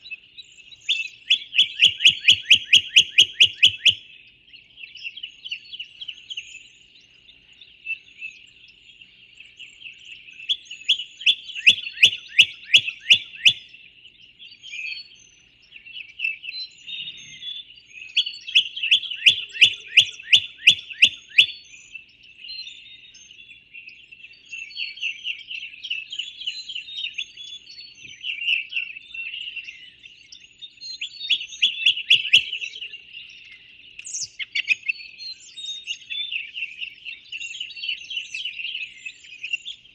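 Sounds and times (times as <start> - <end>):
rapidly repeated bird notes: 0.0 - 39.9
songbirds chirping: 0.0 - 39.9.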